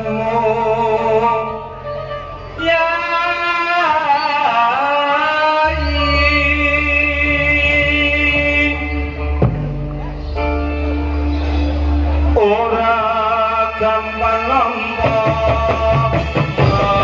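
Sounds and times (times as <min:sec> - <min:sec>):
deep bass: 0:00.0 - 0:17.0
instrumental backing: 0:00.0 - 0:17.0.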